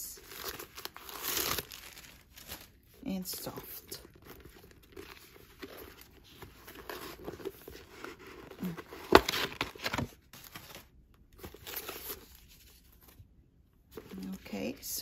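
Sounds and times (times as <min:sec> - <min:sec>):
paper rustling and crinkling: 0:00.2 - 0:13.2.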